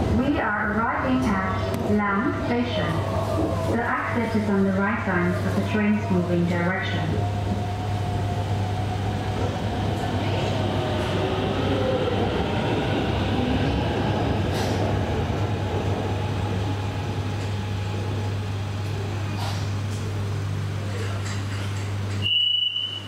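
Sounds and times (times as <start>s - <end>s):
faint train whine: 0.0s - 21.4s
train rumble: 0.0s - 22.2s.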